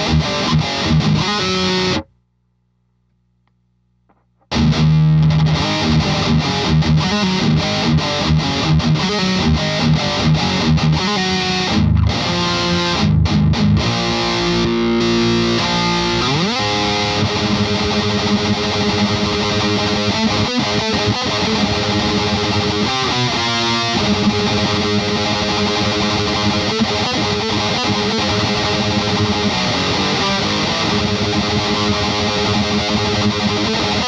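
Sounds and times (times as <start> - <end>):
distorted electric guitar riffing: 0.0 - 2.1, 4.4 - 34.0.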